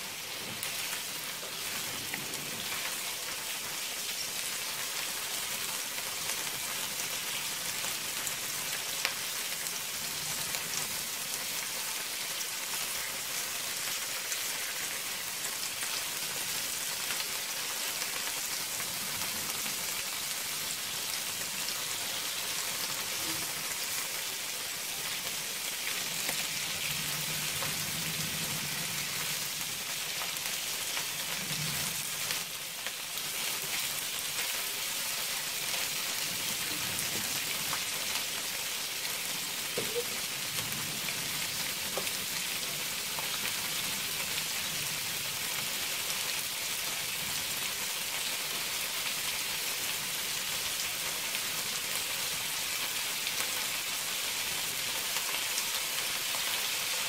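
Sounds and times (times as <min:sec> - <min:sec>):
prawns sizzling in a wok: 0:00.0 - 0:57.0.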